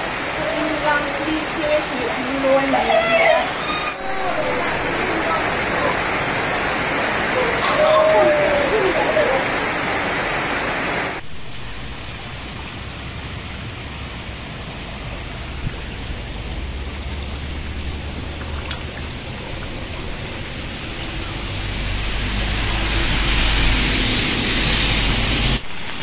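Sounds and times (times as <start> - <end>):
heavy rain on pooled water: 0.0 - 26.0.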